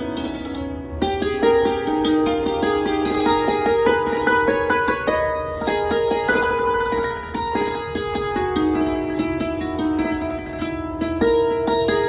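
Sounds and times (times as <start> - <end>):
plucked string notes: 0.0 - 12.0.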